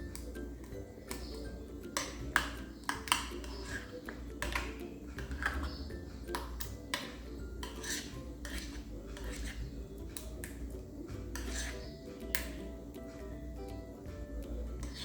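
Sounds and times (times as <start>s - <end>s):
utensil stirring cream in bowl: 0.0s - 13.3s, 14.7s - 15.0s.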